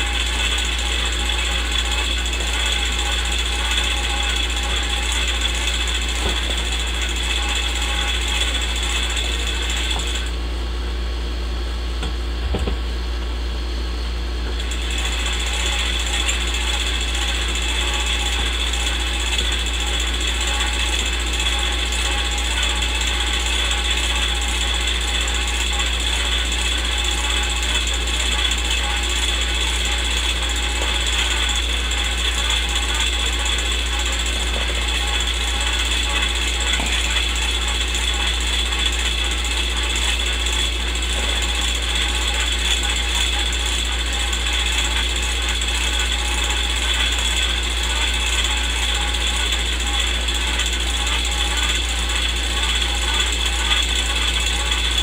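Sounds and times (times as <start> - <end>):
movie projector whir and clatter: 0.0 - 55.0.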